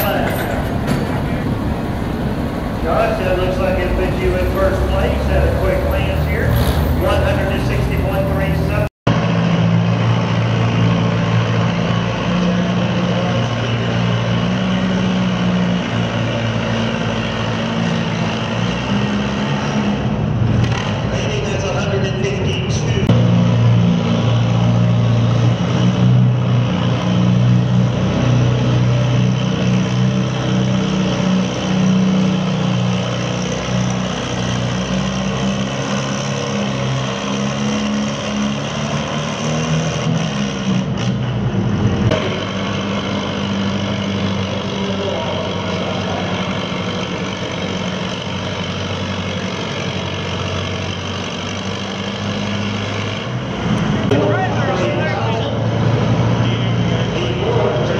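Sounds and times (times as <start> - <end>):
tractor engine under load: 0.0 - 57.9.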